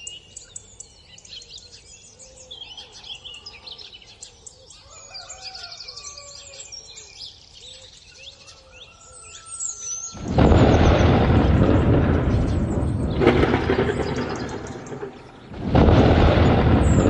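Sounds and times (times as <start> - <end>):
small birds chirping: 0.0 - 17.0
low-pitched bird calls: 1.6 - 17.0.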